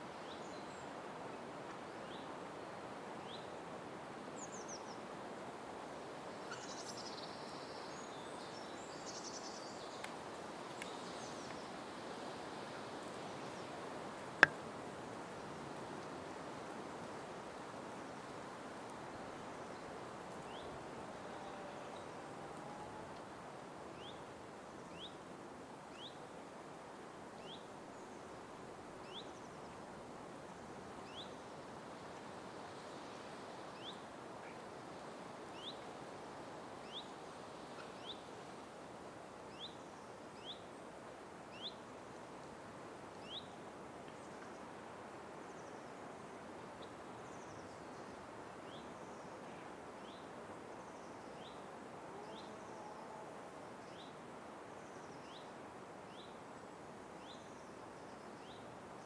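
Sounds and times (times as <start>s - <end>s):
soft background hiss: 0.0s - 59.0s.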